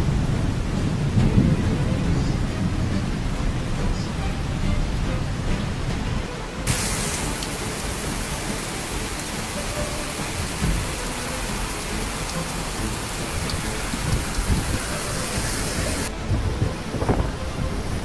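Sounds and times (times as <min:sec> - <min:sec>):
heavy rain on a street: 0:00.0 - 0:18.0
low rumbling: 0:00.0 - 0:18.0.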